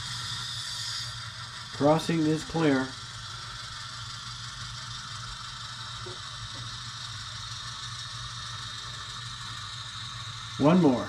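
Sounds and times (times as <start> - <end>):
model locomotive motor running: 0.0 - 11.0.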